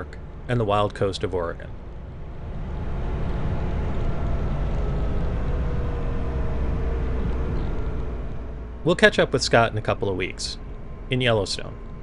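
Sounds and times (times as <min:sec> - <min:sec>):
faint engine hum: 0:00.0 - 0:12.0
wind and road rumble: 0:00.0 - 0:12.0.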